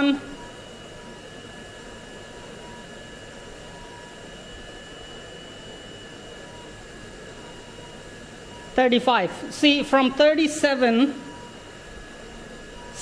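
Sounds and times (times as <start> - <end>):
high-pitched fan whine: 0.0 - 13.0.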